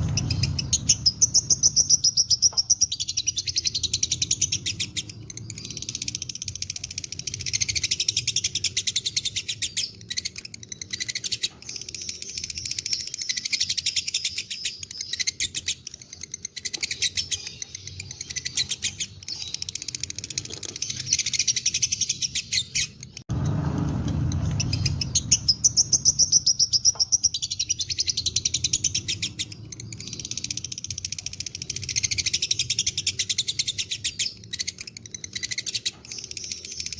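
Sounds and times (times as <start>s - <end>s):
lovebird chattering: 0.0s - 23.2s, 24.3s - 36.9s.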